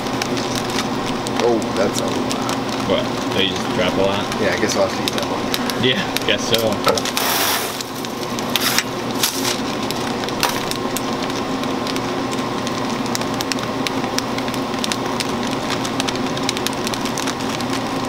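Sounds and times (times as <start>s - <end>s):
crackle of small clicks: 0.0s - 18.0s
machine humming: 0.0s - 18.0s.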